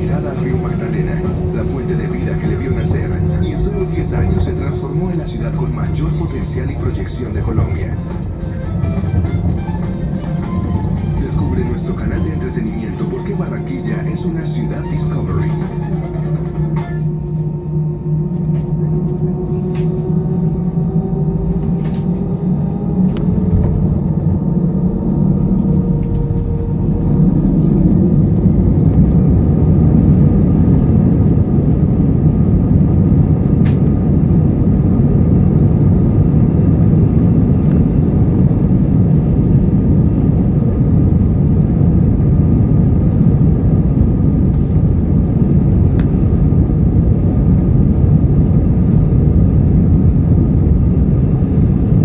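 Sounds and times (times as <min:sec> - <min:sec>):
jet engine cabin noise: 0:00.0 - 0:52.0.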